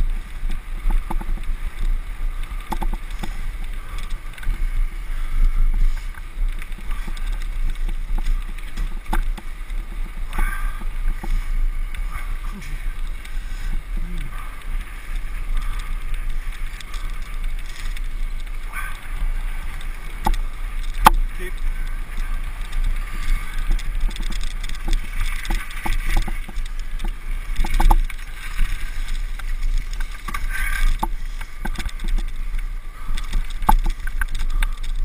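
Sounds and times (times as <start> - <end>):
bicycle rattles and clicks: 0.0 - 35.0
tyres rolling on tarmac: 0.0 - 35.0.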